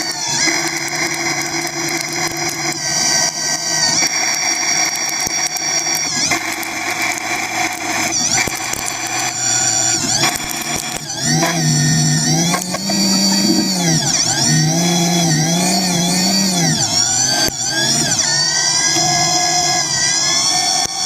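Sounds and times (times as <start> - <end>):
machine tool motor whine: 0.0 - 21.0.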